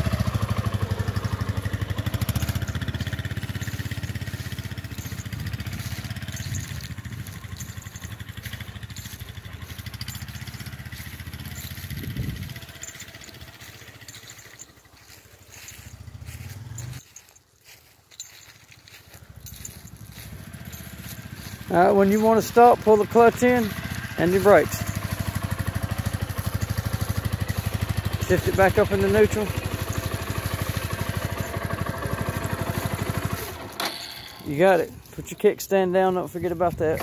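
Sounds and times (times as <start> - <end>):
motorcycle engine pulling away: 0.0 - 37.0.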